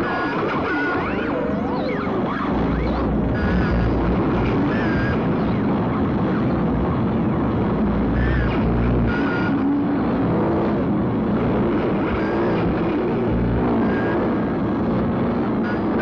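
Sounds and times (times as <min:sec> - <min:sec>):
distorted noise music: 0:00.0 - 0:16.0
heavy low rumble: 0:01.5 - 0:16.0.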